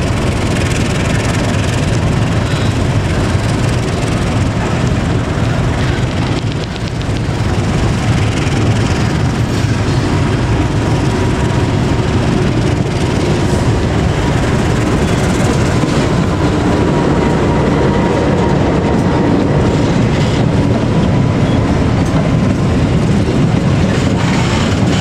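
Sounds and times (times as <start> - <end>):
locomotive engine rumble: 0.0 - 25.0
passenger coaches rolling past: 0.0 - 25.0.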